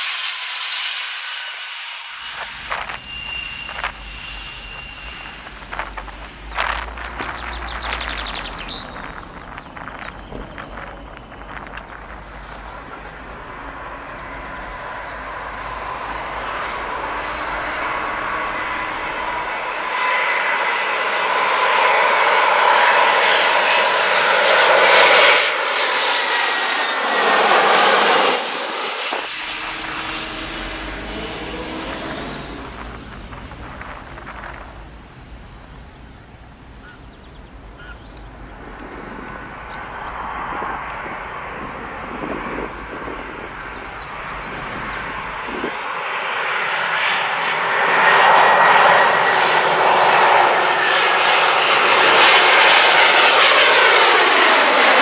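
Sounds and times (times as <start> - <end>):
jet airliner engines overhead: 0.0 - 55.0
low rumble of road traffic: 1.1 - 55.0.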